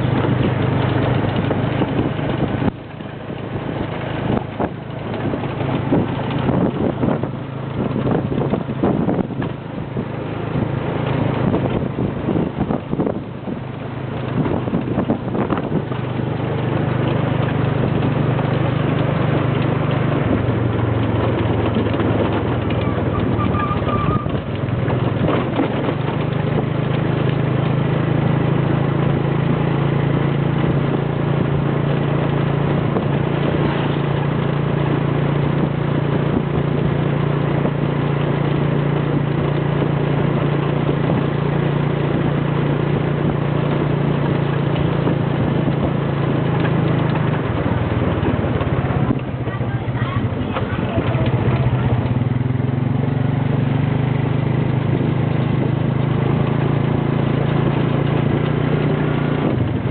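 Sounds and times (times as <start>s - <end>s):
motorcycle engine running: 0.0s - 59.9s
wind and road rush: 0.0s - 59.9s.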